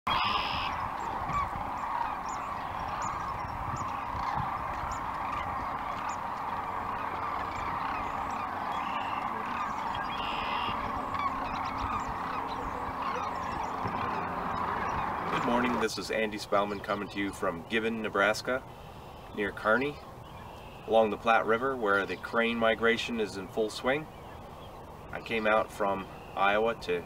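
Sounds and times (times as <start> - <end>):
cranes calling in chorus: 0.1 - 26.9.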